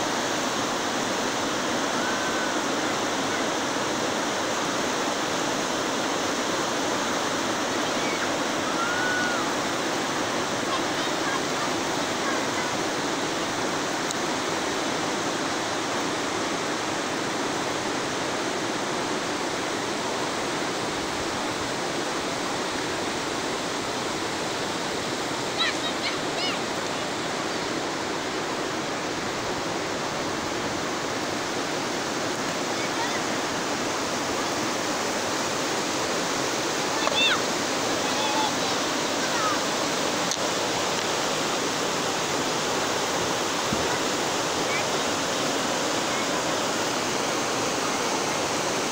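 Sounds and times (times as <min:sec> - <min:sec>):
river rushing over stones: 0:00.0 - 0:48.9.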